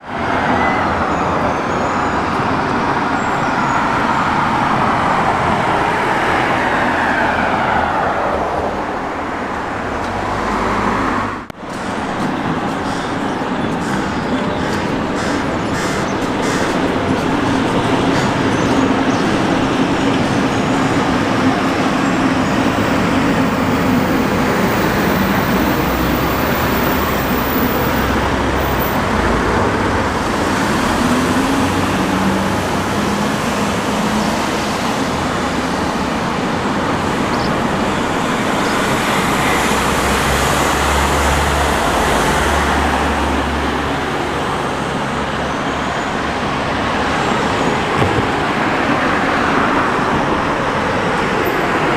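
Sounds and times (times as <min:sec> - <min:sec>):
road traffic: 0:00.0 - 0:51.9
heavy vehicle rumble: 0:07.3 - 0:51.9.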